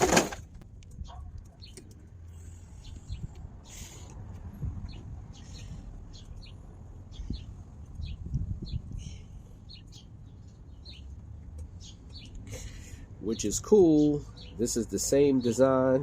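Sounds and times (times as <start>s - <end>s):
small birds chirping: 0.8s - 16.0s.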